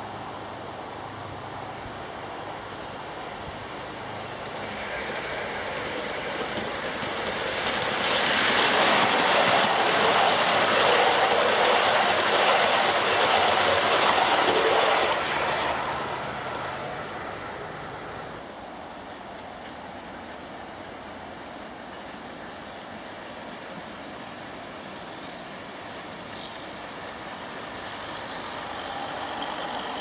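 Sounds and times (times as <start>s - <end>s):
model train running on rails: 0.0s - 30.0s.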